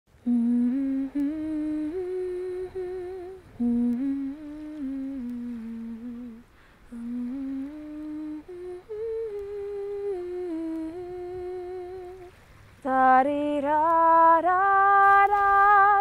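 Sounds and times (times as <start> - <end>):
woman humming a slow tune: 0.2 - 16.0.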